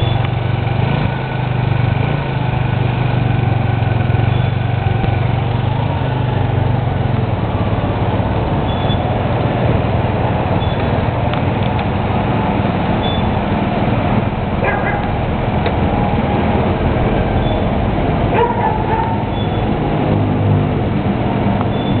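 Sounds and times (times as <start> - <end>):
scooter engine idling: 0.0 - 22.0.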